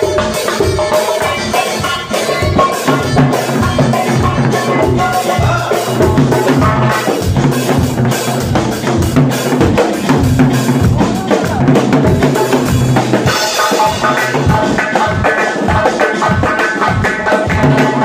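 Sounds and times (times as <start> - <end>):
bass drum beats: 0.0 - 18.0
frame drums playing fast rhythm: 0.0 - 18.0
live band dance music: 0.0 - 18.0.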